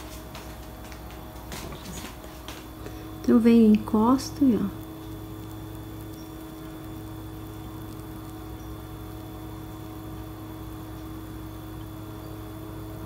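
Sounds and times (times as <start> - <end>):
background hum: 0.0 - 13.0
faint high whine: 0.0 - 13.0.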